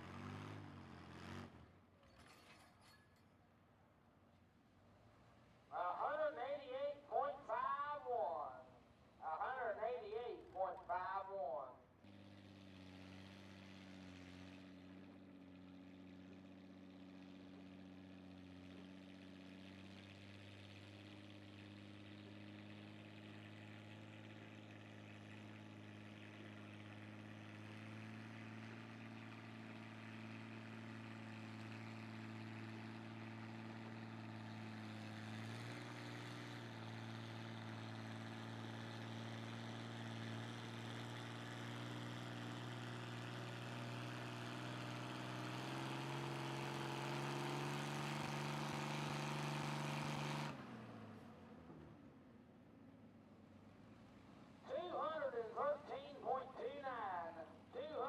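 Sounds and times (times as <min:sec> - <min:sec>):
vehicle engine under load: 0:00.0 - 0:03.2, 0:11.9 - 0:58.0.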